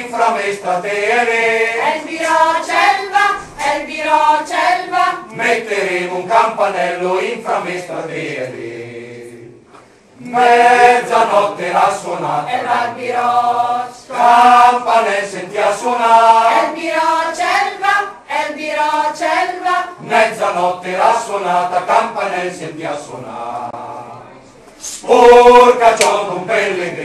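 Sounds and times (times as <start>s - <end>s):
mixed choir singing a cappella: 0.0s - 27.0s.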